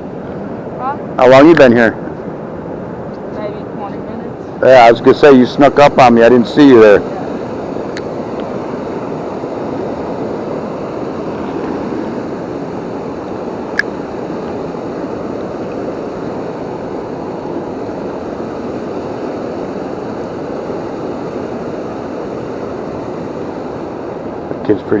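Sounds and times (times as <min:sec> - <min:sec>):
waterfall rushing: 0:03.7 - 0:24.6.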